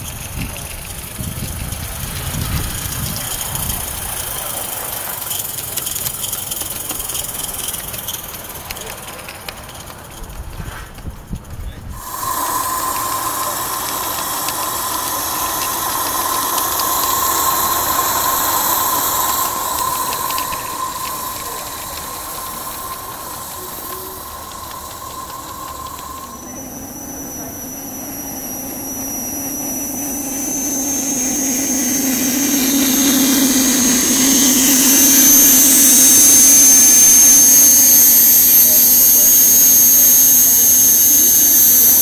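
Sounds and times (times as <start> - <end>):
whistling steam hiss: 0.0 - 11.0, 11.8 - 42.0
toy steam locomotive rattling: 0.0 - 42.0.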